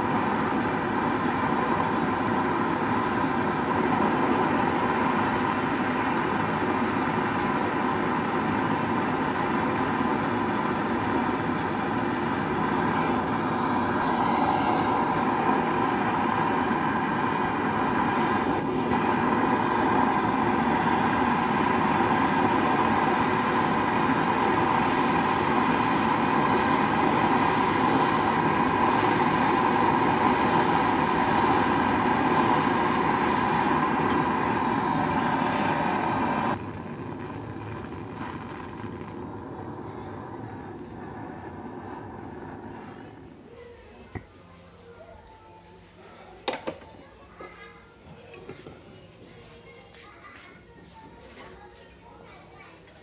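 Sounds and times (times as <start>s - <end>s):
gas torch flame hissing: 0.0s - 44.3s.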